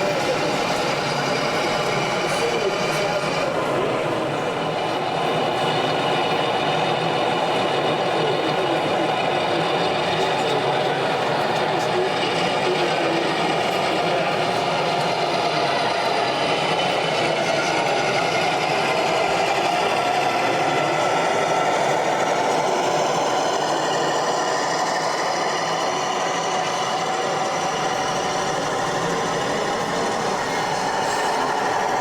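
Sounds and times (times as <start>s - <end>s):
model train running: 0.0s - 32.0s.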